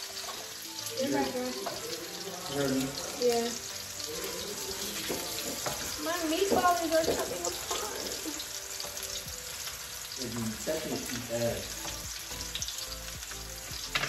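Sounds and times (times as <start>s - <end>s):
meatballs sizzling in oil: 0.0s - 14.0s.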